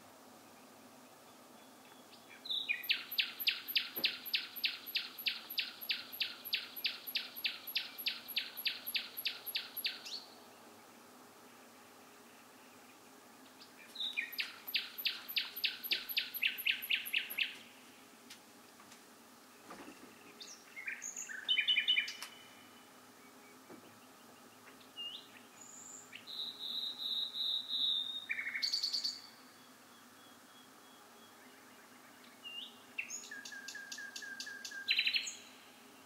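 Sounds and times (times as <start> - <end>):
faint background noise: 0.0 - 36.0
songbird singing: 0.3 - 18.0, 19.4 - 36.0.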